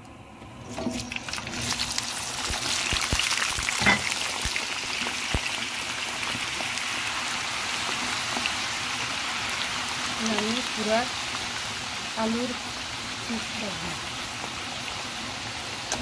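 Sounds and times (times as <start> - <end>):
hot oil sizzling and crackling: 0.0 - 16.0.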